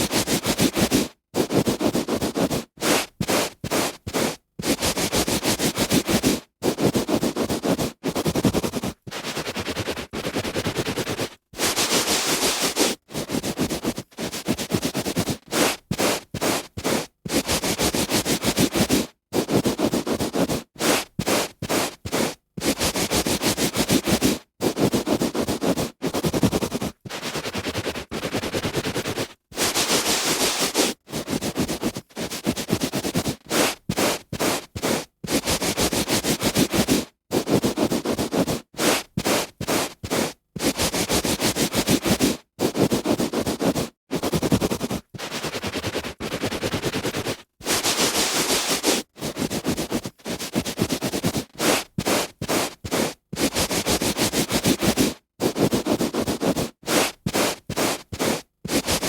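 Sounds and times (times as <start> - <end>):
hand rubbing on carpet: 0.0 - 59.0.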